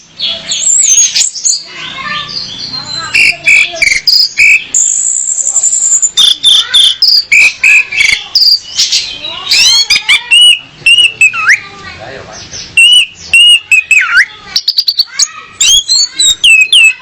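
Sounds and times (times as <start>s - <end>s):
thrush chirping and whistling: 0.0s - 11.7s, 12.6s - 17.0s.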